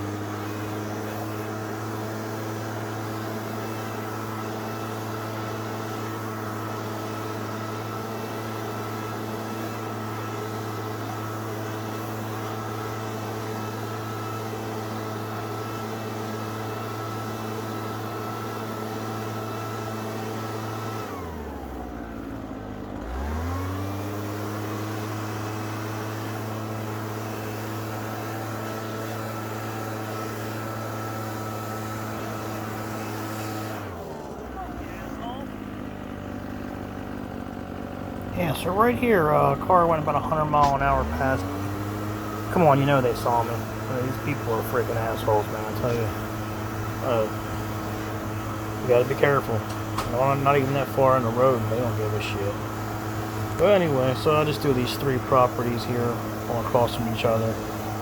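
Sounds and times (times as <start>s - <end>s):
string trimmer engine revving: 0.0s - 58.0s.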